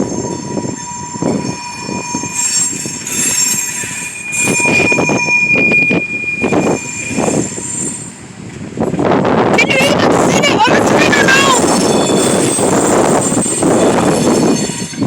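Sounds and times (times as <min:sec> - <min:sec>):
high-pitched wheel squeal: 0:00.0 - 0:08.6, 0:09.3 - 0:15.0
freight train cars rumbling: 0:00.0 - 0:15.0.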